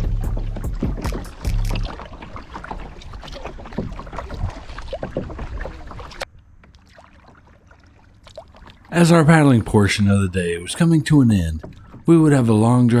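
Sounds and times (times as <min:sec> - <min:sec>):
paddle strokes in water: 0:00.0 - 0:12.9
water splashing and dripping: 0:00.0 - 0:13.0.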